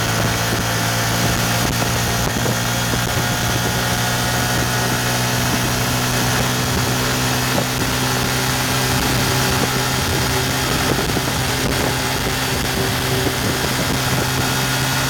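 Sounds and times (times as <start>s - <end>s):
motorcycle engine at high revs: 0.0s - 15.0s
wind on microphone: 0.0s - 15.0s.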